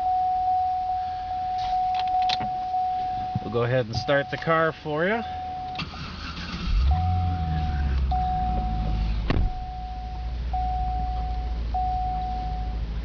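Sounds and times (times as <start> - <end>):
seat-belt reminder beeps: 0.0 - 12.8
car engine idling: 0.0 - 13.0.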